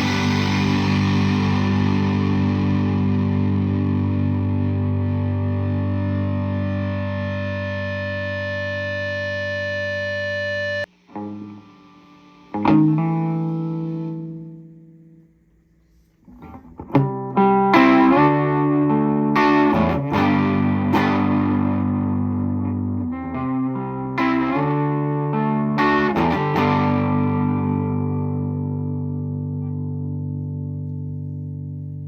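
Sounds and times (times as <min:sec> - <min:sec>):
distorted electric guitar chords: 0:00.0 - 0:15.2, 0:16.2 - 0:32.0.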